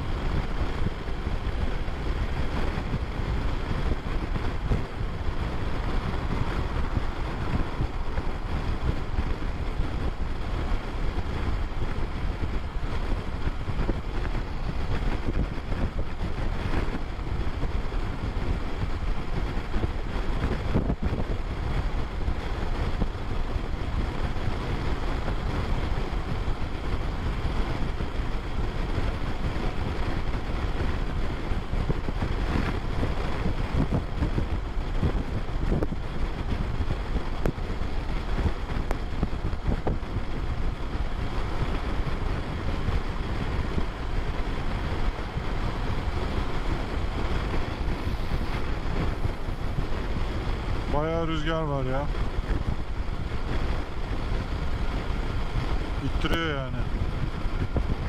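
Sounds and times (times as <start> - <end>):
motorcycle engine running: 0.0 - 58.0
wind rushing on microphone: 0.0 - 58.0.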